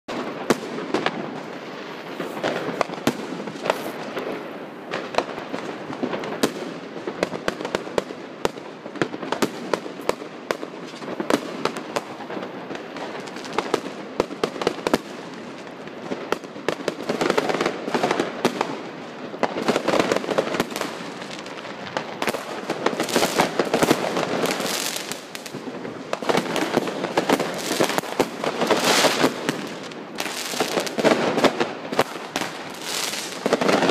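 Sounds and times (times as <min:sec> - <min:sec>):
fireworks bangs and pops: 0:00.1 - 0:33.9
fireworks crackling: 0:00.1 - 0:33.9.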